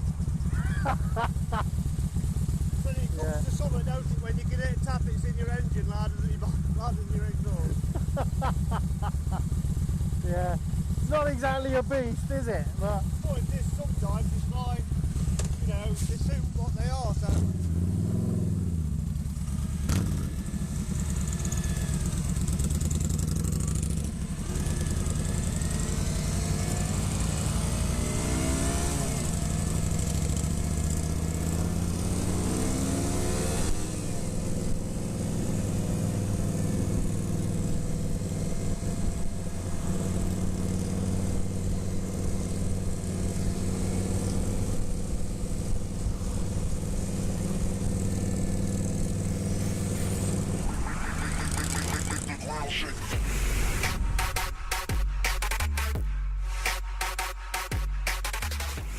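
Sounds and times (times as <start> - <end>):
motorcycle engine running: 0.0 - 53.2.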